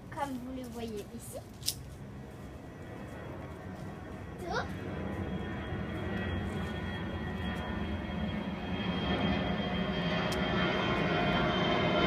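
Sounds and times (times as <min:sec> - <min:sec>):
airplane engine rumble overhead: 0:00.0 - 0:12.0.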